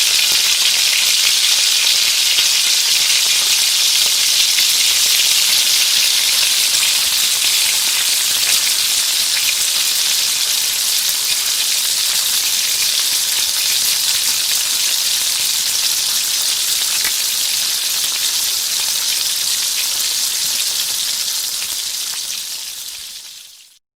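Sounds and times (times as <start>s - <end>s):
food sizzling in hot oil: 0.0s - 23.8s.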